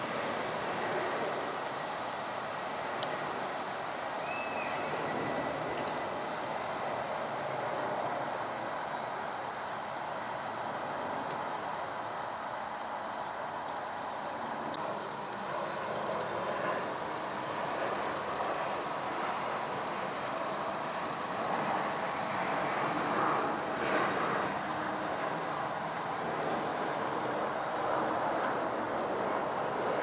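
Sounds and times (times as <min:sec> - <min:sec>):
jet airliner passing overhead: 0:00.0 - 0:30.0.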